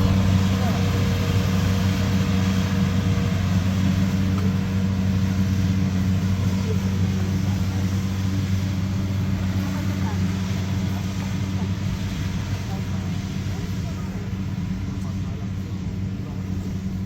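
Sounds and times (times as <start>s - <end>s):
vehicle engine running steadily: 0.0s - 17.0s.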